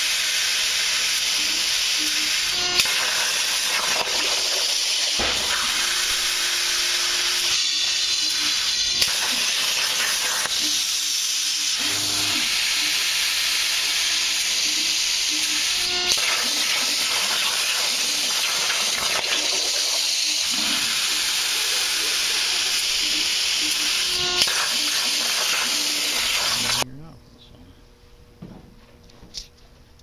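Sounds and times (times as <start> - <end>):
plasma torch hissing: 0.0 - 26.8.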